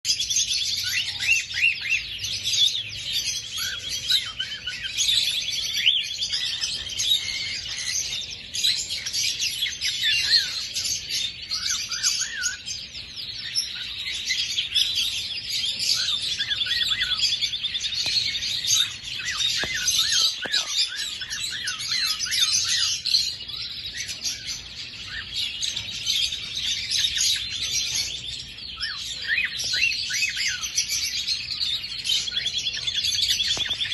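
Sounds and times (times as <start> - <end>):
cockatiels chirping and warbling: 0.1 - 33.9.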